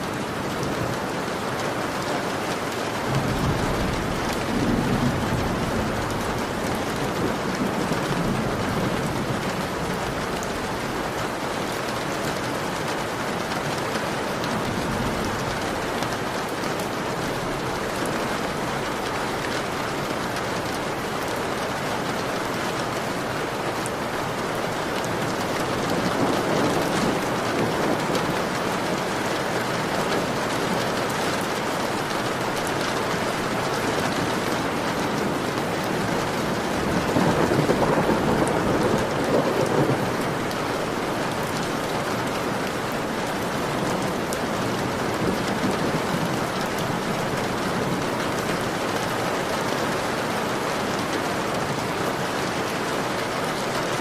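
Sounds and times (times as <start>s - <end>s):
heavy rain on a window: 0.0s - 54.0s.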